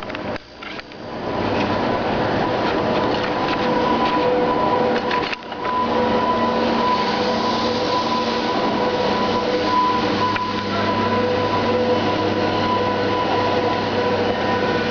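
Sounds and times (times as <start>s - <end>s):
two-tone machinery hum: 0.0s - 14.9s.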